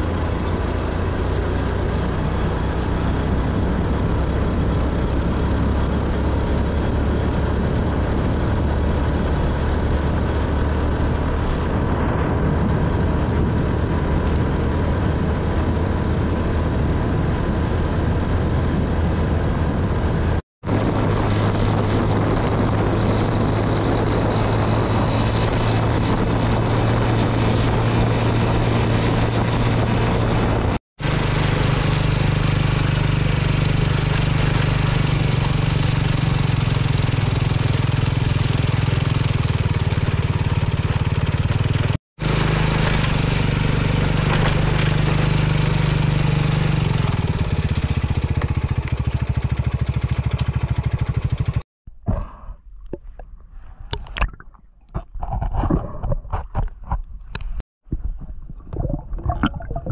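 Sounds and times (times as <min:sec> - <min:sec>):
wind noise: 0:00.0 - 0:48.8, 0:51.9 - 0:59.9
motorcycle engine running: 0:00.0 - 0:51.6.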